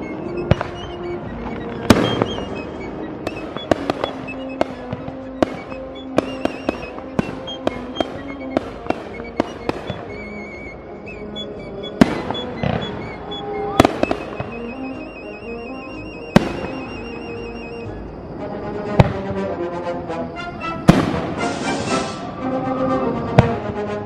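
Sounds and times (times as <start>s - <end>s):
fireworks bangs: 0.0s - 17.9s, 18.9s - 19.4s, 20.8s - 22.3s, 23.3s - 23.8s
music: 0.0s - 24.0s.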